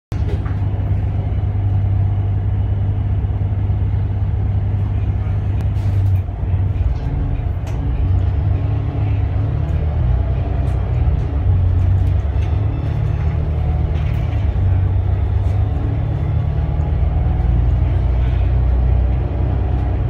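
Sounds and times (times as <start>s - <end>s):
bus diesel engine rumble: 0.1s - 20.0s.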